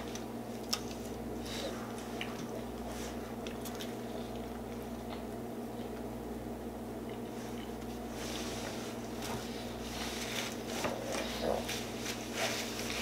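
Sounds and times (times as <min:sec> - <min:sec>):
person chewing food: 0:00.0 - 0:06.1, 0:07.0 - 0:13.0
steady low hum: 0:00.0 - 0:13.0.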